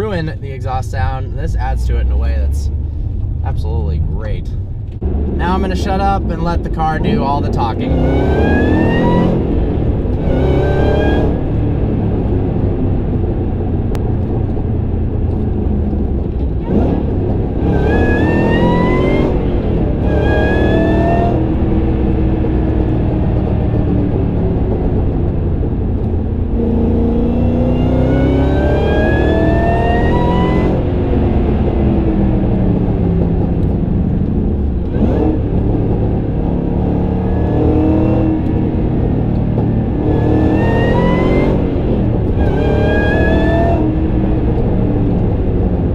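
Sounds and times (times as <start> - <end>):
supercharger whine: 0.0 - 45.9
car engine accelerating hard: 1.4 - 45.9.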